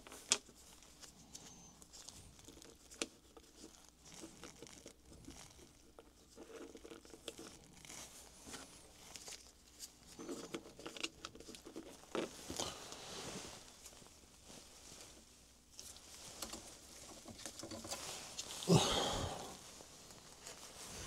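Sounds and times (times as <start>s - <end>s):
gloves crinkling and rubbing: 0.0s - 21.0s.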